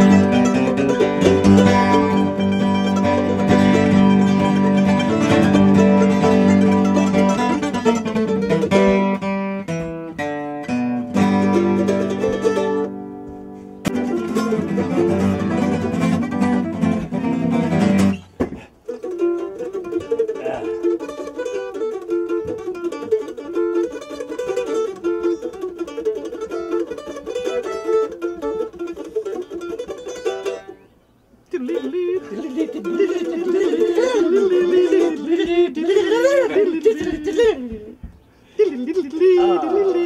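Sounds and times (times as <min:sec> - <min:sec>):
acoustic guitar: 0:00.0 - 0:40.0
mandolin picking: 0:00.0 - 0:40.0.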